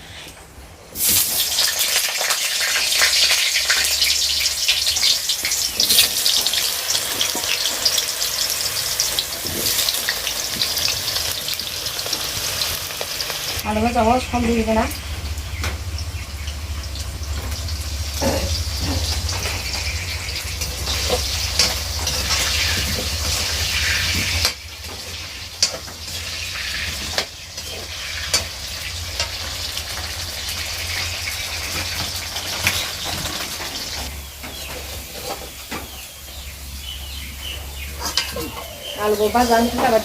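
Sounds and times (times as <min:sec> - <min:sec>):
food sizzling in hot oil: 0:01.0 - 0:40.0.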